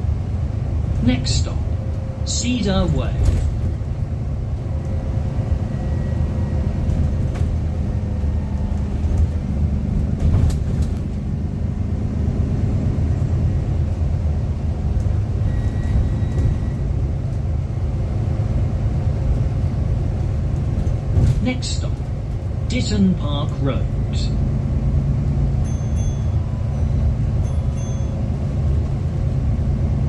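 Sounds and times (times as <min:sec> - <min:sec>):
bus engine rumble: 0:00.0 - 0:30.0
engine noise through speaker: 0:00.7 - 0:15.2, 0:19.0 - 0:30.0.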